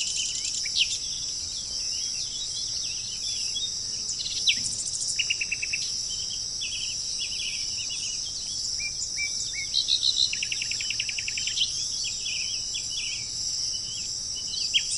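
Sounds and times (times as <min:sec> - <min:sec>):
high-pitched insect drone: 0:00.0 - 0:14.9
songbirds singing: 0:00.0 - 0:14.9.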